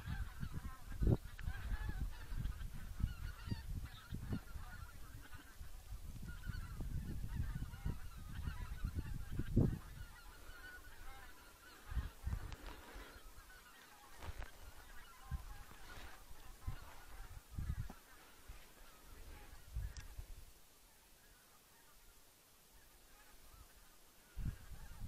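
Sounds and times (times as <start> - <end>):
geese honking: 0.0 - 20.3, 20.9 - 22.2, 22.8 - 25.0.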